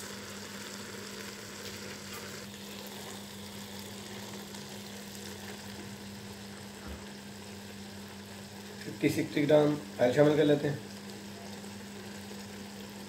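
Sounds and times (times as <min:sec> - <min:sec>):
meat sizzling in a wok: 0:00.0 - 0:13.0.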